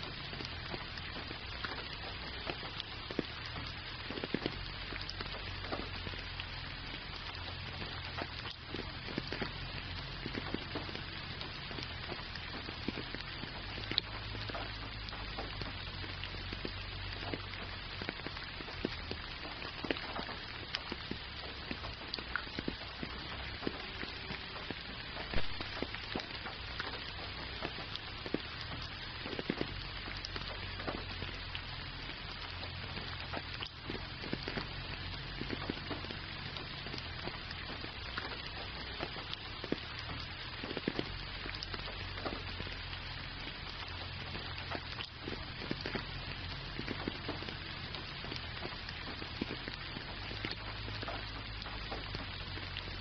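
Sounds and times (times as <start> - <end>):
gentle rain hiss: 0.0 - 53.0
raindrops ticking close by: 0.0 - 53.0.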